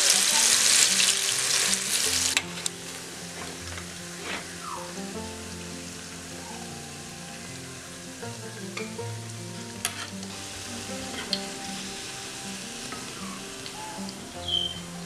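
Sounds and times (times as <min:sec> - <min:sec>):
plantain sizzling in oil: 0:00.0 - 0:15.0.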